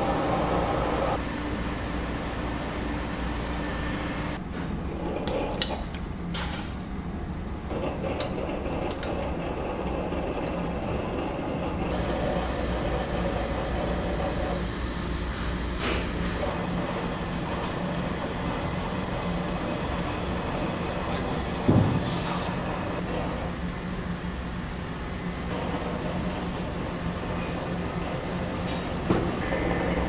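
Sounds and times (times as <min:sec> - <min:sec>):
mechanical hum with droning tones: 0:00.0 - 0:30.0.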